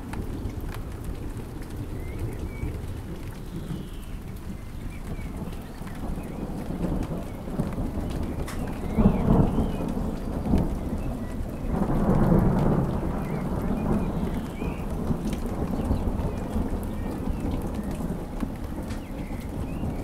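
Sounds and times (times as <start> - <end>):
rolling thunder rumble: 0.0 - 20.0
steady rain falling: 0.0 - 20.0.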